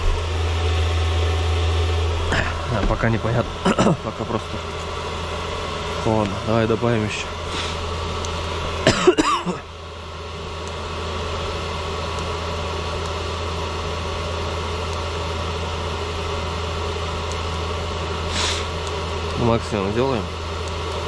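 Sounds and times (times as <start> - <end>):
air heater fan and burner: 0.0 - 21.0.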